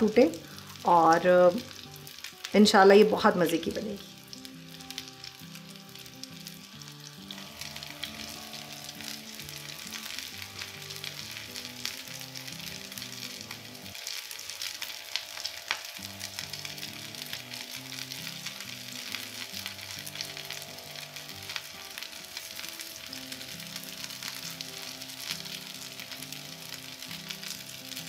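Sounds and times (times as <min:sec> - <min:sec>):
food sizzling in oil: 0:00.0 - 0:28.0
oil popping and crackling: 0:00.0 - 0:28.0
soft background music: 0:00.0 - 0:28.0.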